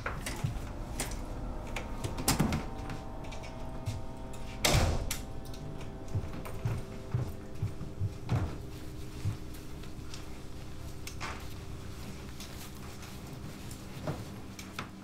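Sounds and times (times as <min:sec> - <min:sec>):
low hum: 0:00.0 - 0:15.0
soft footsteps in hallway: 0:00.0 - 0:15.0.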